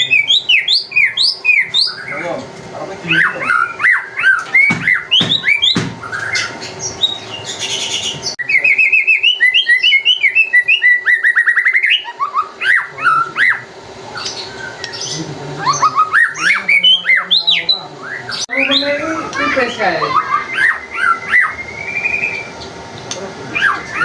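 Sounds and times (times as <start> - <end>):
bird singing whistled phrases: 0.0 - 2.2, 3.1 - 22.6, 23.5 - 24.0.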